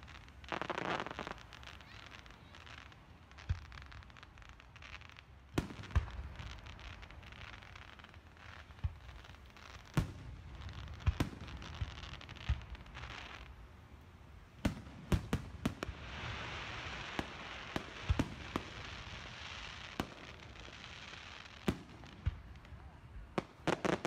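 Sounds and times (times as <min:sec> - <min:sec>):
fireworks bangs: 0:00.0 - 0:13.5, 0:14.5 - 0:24.0
crackling hiss of fireworks: 0:00.0 - 0:24.0.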